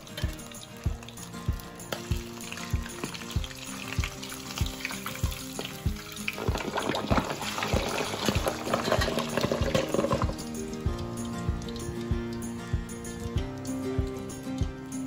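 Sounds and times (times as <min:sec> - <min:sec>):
meat sizzling in hot oil: 0:00.0 - 0:15.0
music with a steady beat: 0:00.0 - 0:15.0.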